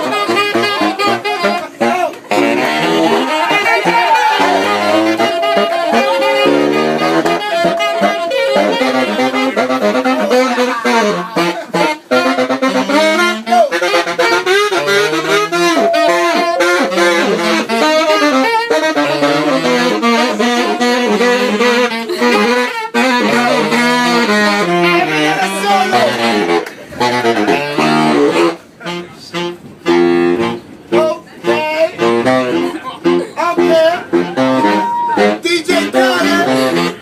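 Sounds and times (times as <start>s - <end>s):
saxophone melody: 0.0s - 37.0s.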